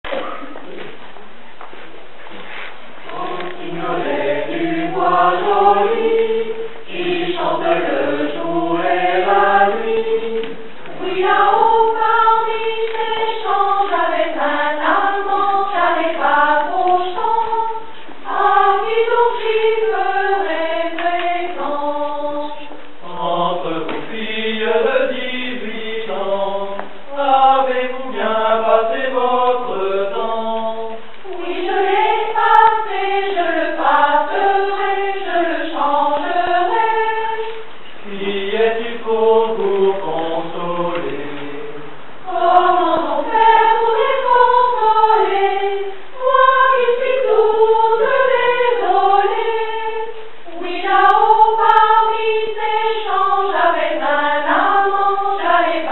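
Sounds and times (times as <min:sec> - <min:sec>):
mixed choir singing a cappella: 0:03.0 - 0:55.9.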